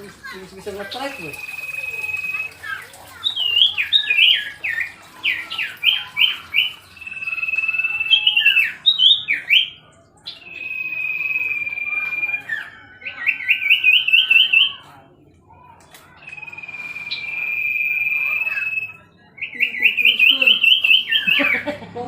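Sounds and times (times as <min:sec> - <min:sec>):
bird singing high whistles: 0:01.0 - 0:14.8, 0:16.2 - 0:21.6.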